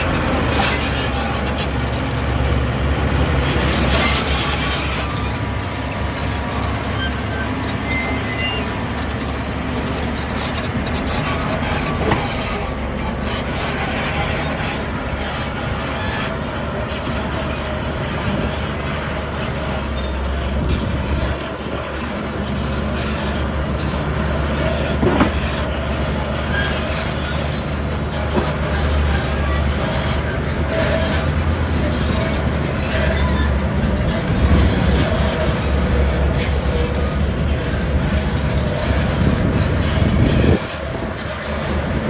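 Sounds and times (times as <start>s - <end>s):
diesel machinery rumbling: 0.0s - 42.0s.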